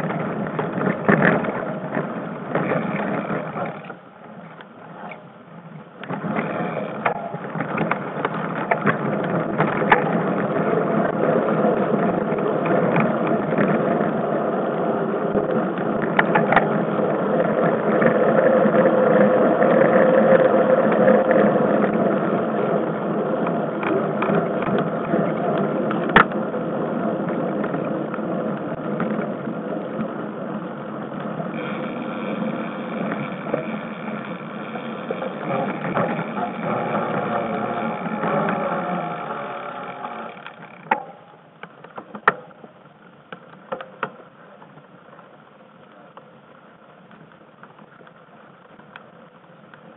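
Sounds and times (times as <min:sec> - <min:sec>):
bike and mount rattling: 0:00.0 - 0:45.4
mountain bike tyres rumbling on dirt: 0:00.0 - 0:49.9.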